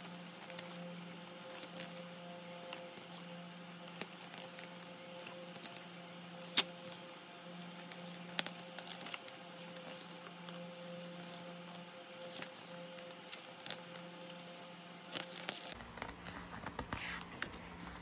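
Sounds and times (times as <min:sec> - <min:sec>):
book pages turning: 0:00.0 - 0:18.0
low background hum: 0:00.0 - 0:18.0.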